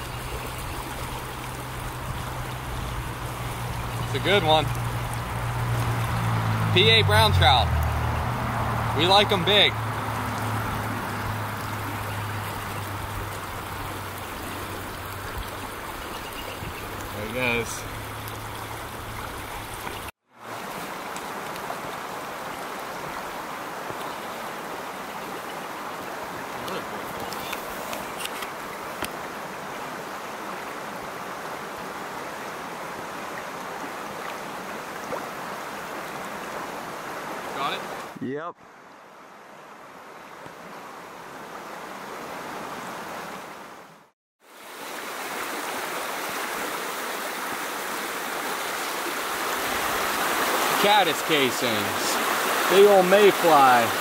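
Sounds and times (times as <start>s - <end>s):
stream flowing over riffles: 0.0s - 54.0s.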